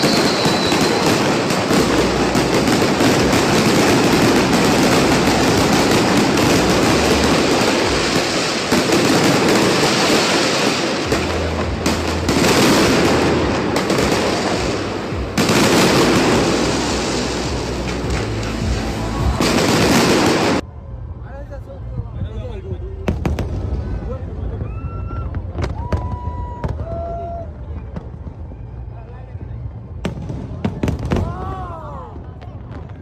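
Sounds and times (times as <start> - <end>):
fireworks crackling and banging: 0.0 - 20.6, 21.8 - 33.0.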